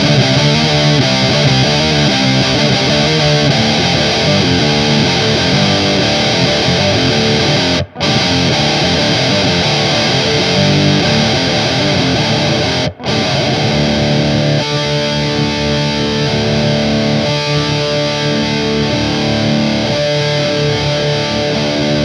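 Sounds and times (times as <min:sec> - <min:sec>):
distorted electric guitar riff: 0:00.0 - 0:22.0.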